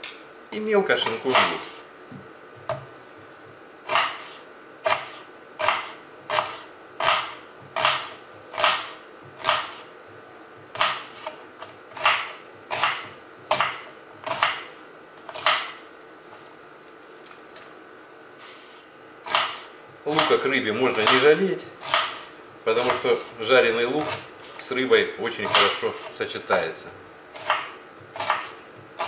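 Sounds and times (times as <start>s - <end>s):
knife slicing onion on board: 1.0s - 16.5s, 18.6s - 26.4s, 27.3s - 29.0s.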